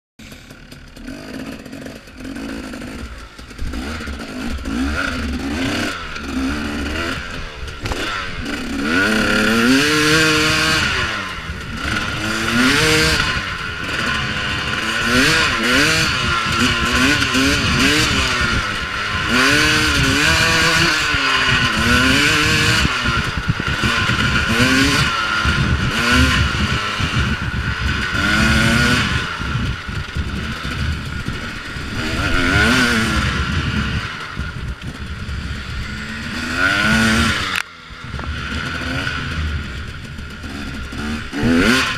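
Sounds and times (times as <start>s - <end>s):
dirt bike engine revving: 0.2s - 41.9s.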